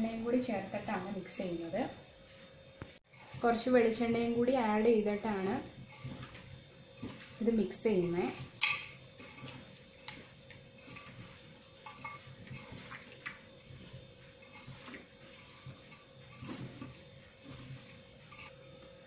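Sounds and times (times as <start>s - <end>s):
hand mixing meat: 0.0s - 18.8s.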